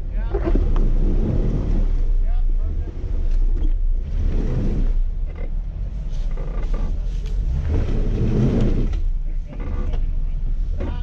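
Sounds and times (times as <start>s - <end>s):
low engine rumble: 0.0s - 11.0s
vehicle creaking: 0.0s - 11.0s.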